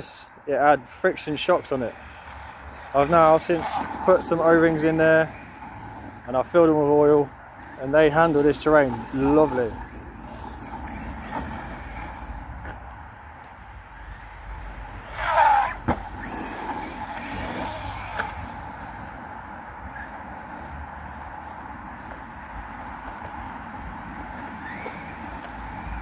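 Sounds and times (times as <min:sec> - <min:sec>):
rc truck motor whining: 0:00.8 - 0:22.6, 0:23.2 - 0:26.0.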